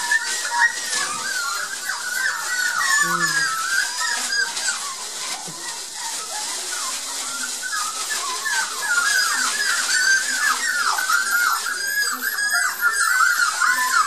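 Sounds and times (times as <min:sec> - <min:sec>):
newspaper bedding rustling: 0:00.0 - 0:14.0
puppies whining and yelping: 0:00.0 - 0:14.0.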